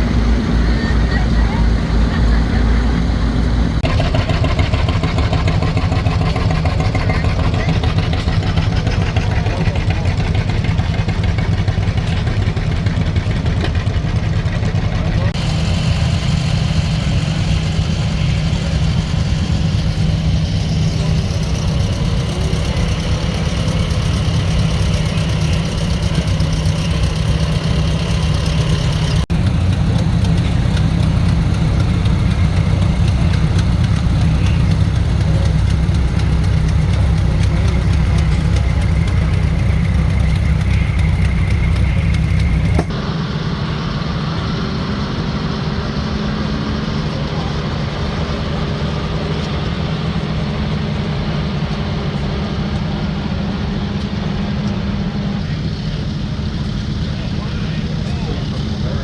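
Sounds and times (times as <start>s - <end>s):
engine idling rumble: 0.0s - 59.0s.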